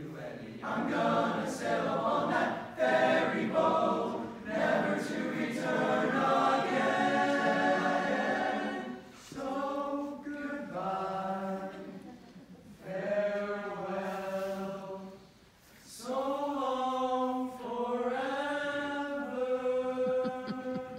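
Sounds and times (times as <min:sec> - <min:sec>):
boys choir singing: 0:00.0 - 0:12.1, 0:12.7 - 0:20.9.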